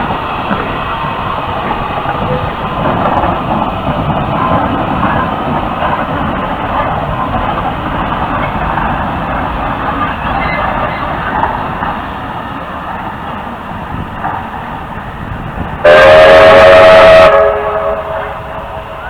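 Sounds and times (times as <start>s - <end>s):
steam train running on rails: 0.0s - 19.0s.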